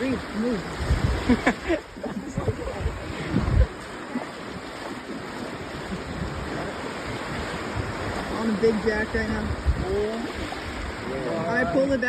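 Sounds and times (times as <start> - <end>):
surf washing on beach: 0.0 - 12.0
wind on microphone: 0.0 - 12.0.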